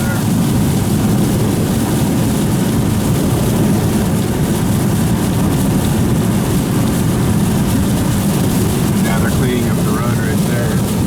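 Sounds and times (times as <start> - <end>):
car driving cabin rumble: 0.0 - 11.0.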